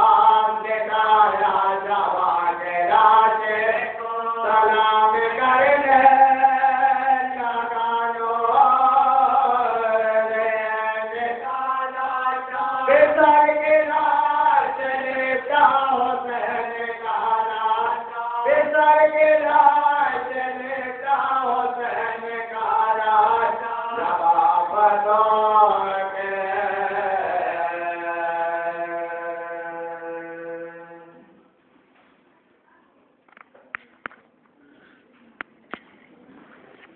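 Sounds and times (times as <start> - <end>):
person chanting: 0.0 - 31.3.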